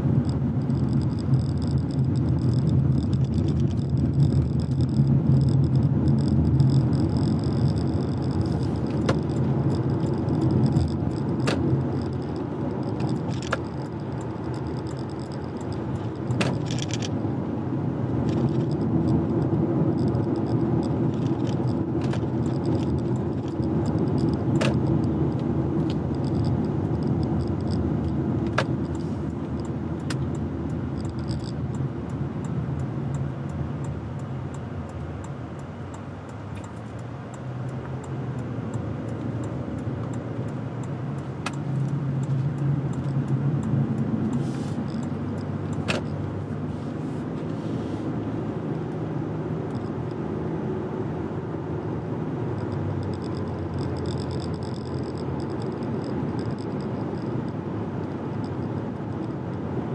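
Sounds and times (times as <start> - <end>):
car driving on road: 0.0 - 59.9
sharp clicks: 0.2 - 17.2, 18.1 - 46.4, 52.4 - 59.6.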